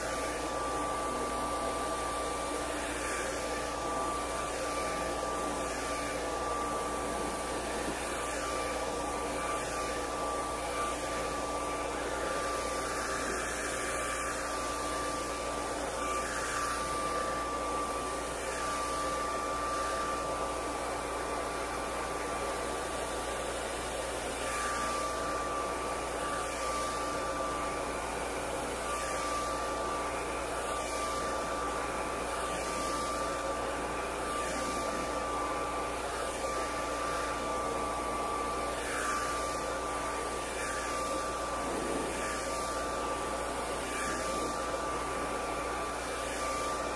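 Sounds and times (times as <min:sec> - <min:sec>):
hair dryer running: 0:00.0 - 0:46.9.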